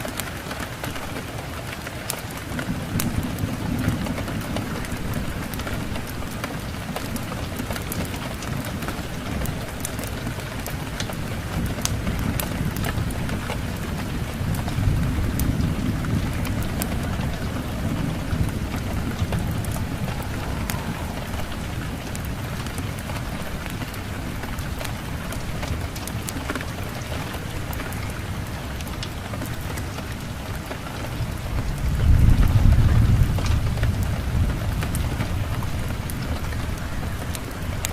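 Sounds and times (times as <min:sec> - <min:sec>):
low rumble of thunder: 0:00.0 - 0:37.9
steady rain falling: 0:00.0 - 0:37.9
wood fire crackling: 0:00.0 - 0:37.9.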